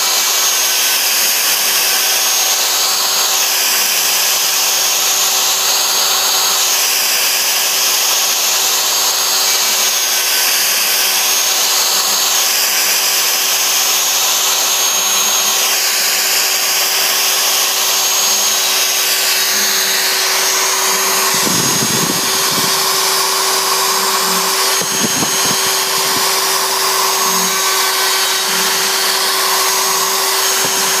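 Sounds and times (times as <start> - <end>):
bit cutting wood: 0.0 - 31.0
router spindle whine: 0.0 - 31.0.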